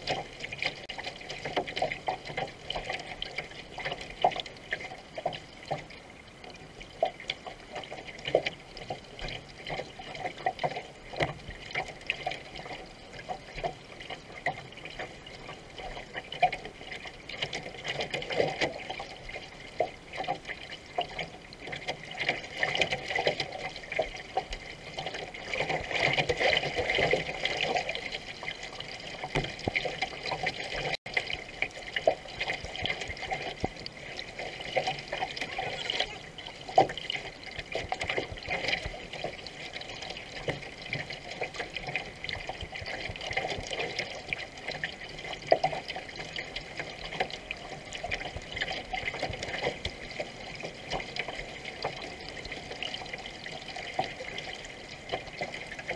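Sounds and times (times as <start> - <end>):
water rushing along hull: 0.0 - 55.9
paddle strokes splashing: 6.9 - 55.9.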